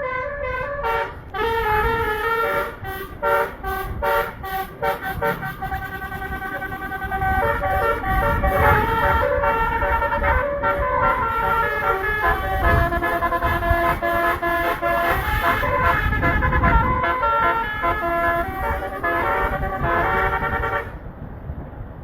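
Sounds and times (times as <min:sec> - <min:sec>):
multi-tone bus horn tune: 0:00.0 - 0:21.1.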